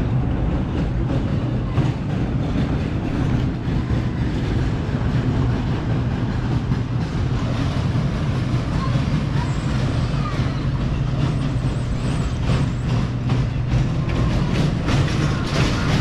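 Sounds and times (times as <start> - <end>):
constant hum: 0.0 - 16.0
machinery rumbling: 0.0 - 16.0.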